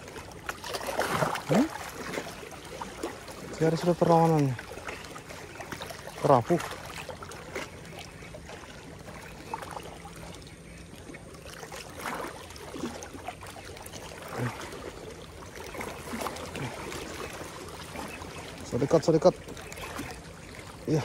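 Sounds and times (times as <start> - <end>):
waves lapping on rocky shore: 0.0 - 10.8, 11.4 - 21.0.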